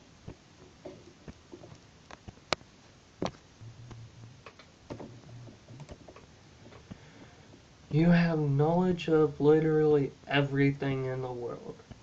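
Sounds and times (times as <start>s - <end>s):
faint low humming: 0.0s - 12.0s.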